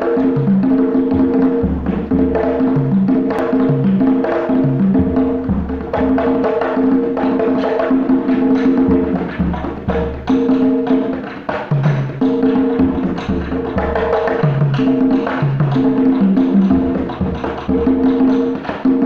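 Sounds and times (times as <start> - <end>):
hand drums slapping: 0.0 - 19.0.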